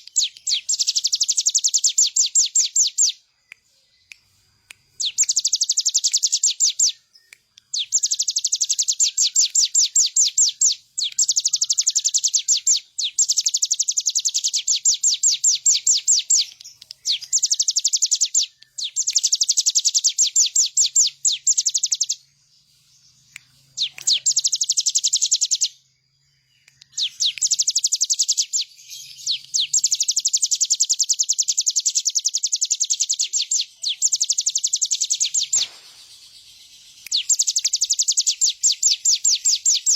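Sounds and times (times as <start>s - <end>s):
bird singing rapid high trills: 0.0s - 39.9s.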